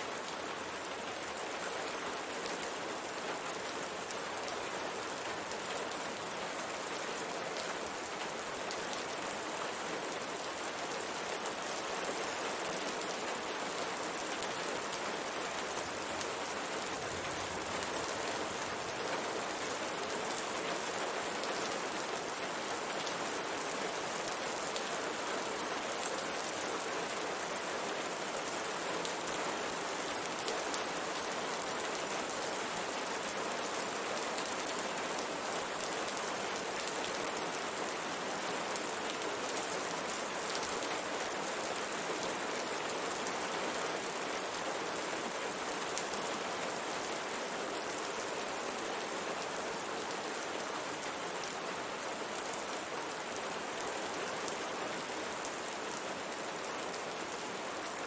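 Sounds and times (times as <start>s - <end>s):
rain on a window pane: 0.1s - 58.0s.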